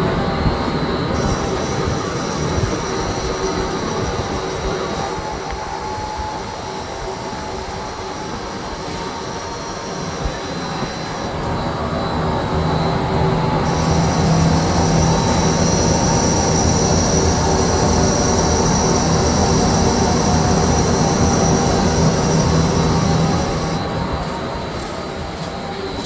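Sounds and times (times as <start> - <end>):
high-pitched machine whine: 0.0 - 26.0
lathe machine hum: 0.0 - 26.0.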